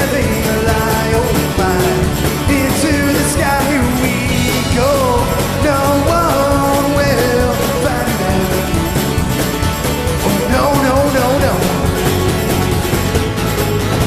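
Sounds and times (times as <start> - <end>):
person singing: 0.0 - 12.8
live rock band playing: 0.0 - 14.0.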